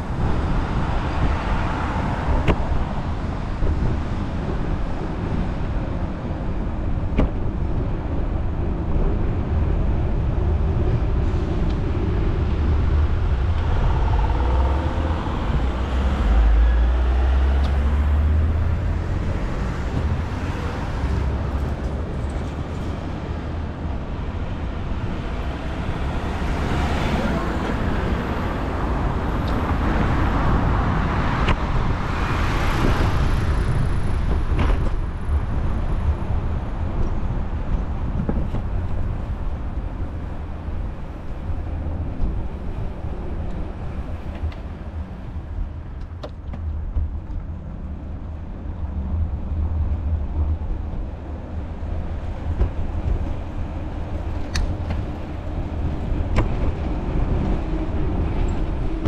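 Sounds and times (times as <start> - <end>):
cars going by: 0.0 - 59.0
wind rumble on microphone: 0.0 - 59.0.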